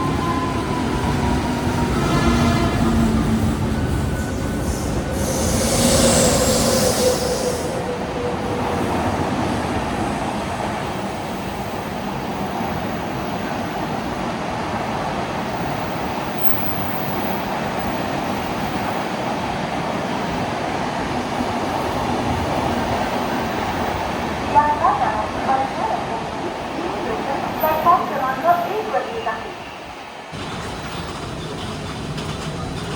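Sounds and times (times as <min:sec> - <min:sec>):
train running on tracks: 0:00.0 - 0:32.9.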